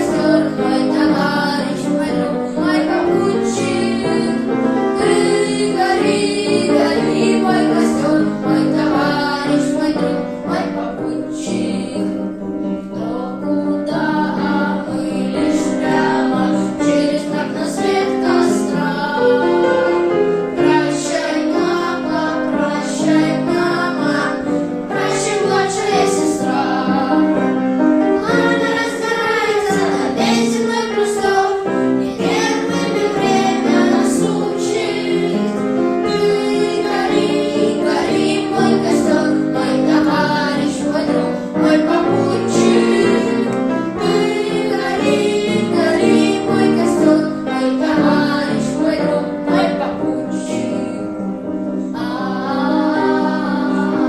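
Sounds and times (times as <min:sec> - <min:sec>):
young voices singing: 0:00.0 - 0:54.0.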